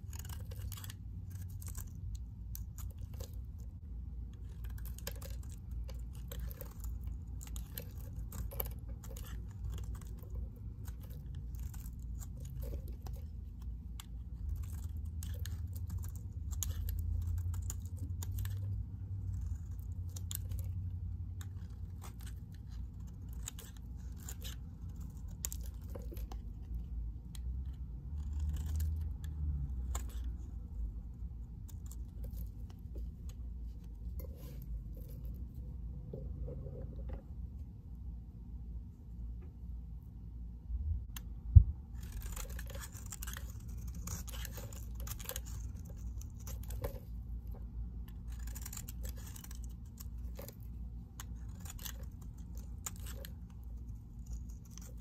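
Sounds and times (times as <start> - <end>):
knife blade scraping soap: 0.0 - 36.2, 41.9 - 55.0.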